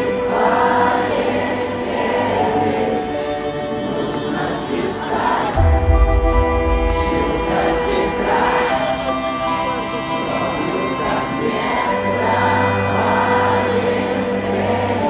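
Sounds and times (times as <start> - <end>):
crowd singing along: 0.0 - 15.0
live rock band: 0.0 - 15.0.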